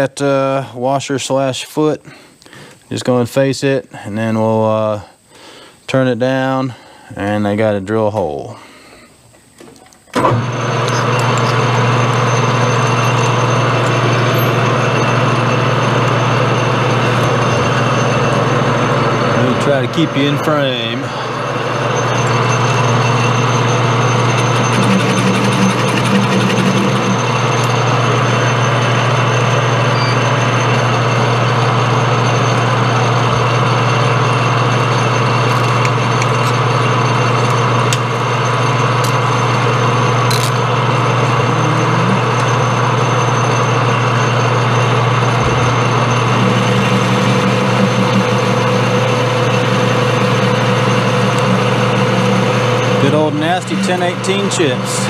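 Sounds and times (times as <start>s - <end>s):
metal lathe humming: 10.1s - 55.0s
lathe cutting steel: 10.2s - 55.0s.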